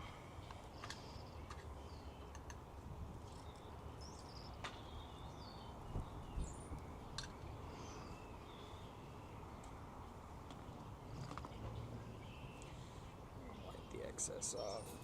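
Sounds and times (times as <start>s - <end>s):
birds chirping: 0.0s - 2.6s, 3.2s - 15.0s.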